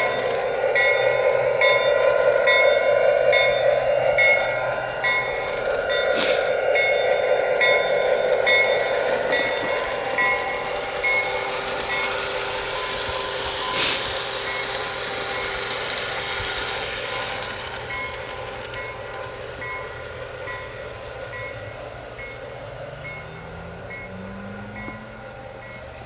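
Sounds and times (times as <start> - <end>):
model locomotive hum: 0.0 - 26.0.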